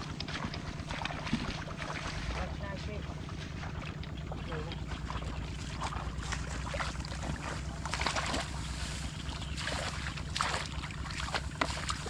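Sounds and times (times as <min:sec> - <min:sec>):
hands splashing in muddy water: 0:00.0 - 0:12.0.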